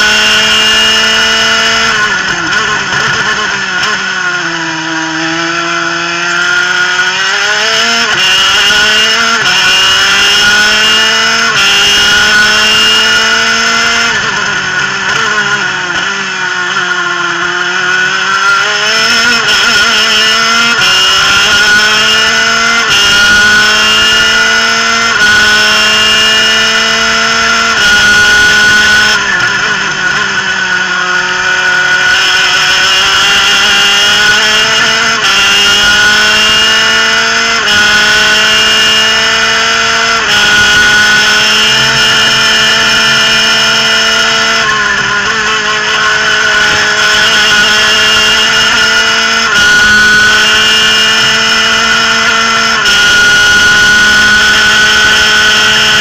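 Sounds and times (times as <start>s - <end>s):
two-stroke kart engine revving: 0.0s - 56.0s.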